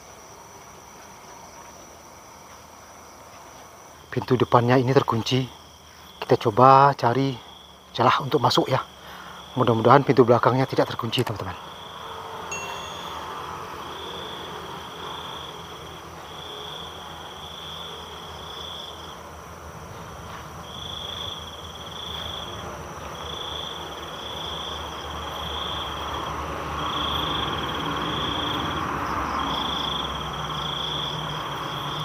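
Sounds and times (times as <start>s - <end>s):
faint high hum: 0.0s - 26.3s
night insects trilling: 0.0s - 32.0s.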